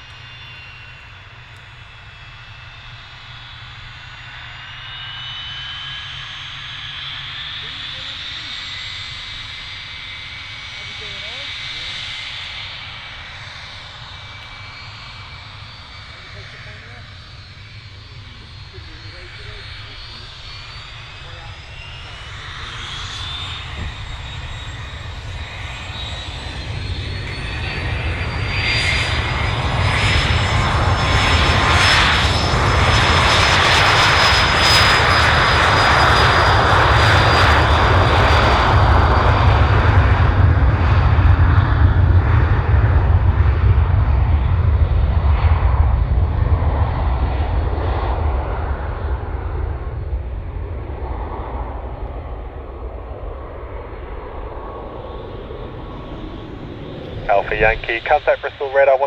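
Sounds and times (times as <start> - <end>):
aircraft turbine engines whining: 0.0 - 59.0.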